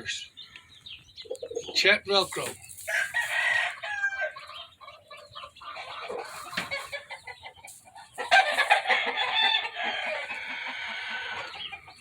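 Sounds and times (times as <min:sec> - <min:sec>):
roosters clucking and calling: 0:00.0 - 0:12.0.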